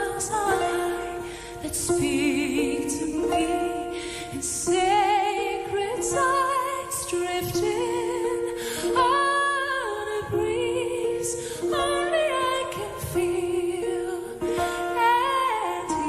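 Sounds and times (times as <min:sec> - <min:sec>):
woman singing with vibrato: 0:00.0 - 0:16.0.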